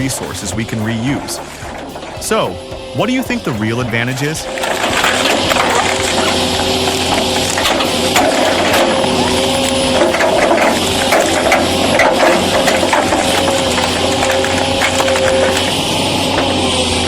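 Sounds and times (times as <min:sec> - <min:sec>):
heavy machine engine running: 0:00.0 - 0:17.0
wood cracking and crunching: 0:00.0 - 0:17.0.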